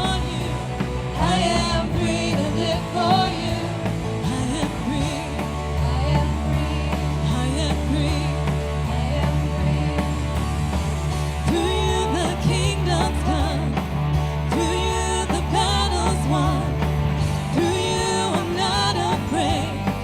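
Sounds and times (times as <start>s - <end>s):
bass guitar: 0.0s - 20.0s
guitar: 0.0s - 20.0s
people singing: 0.0s - 20.0s.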